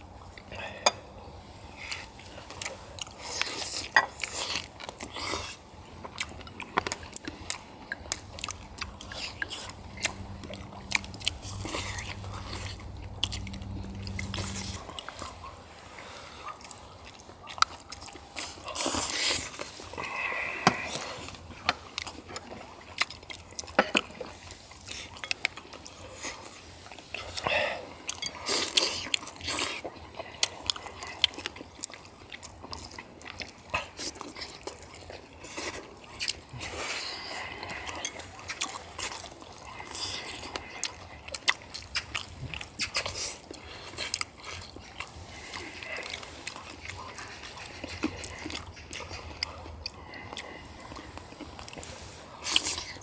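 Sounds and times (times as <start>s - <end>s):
people chewing food: 0.0s - 53.0s.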